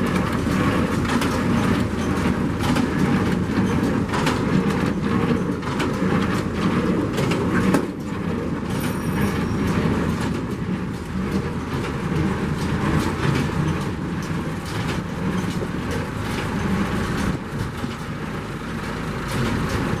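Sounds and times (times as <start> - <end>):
baler clattering: 0.0 - 20.0.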